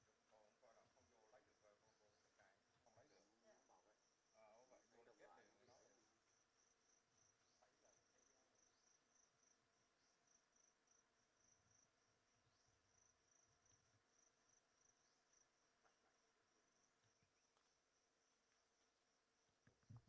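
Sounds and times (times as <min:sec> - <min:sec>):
faint insect chirping: 0:00.0 - 0:20.0.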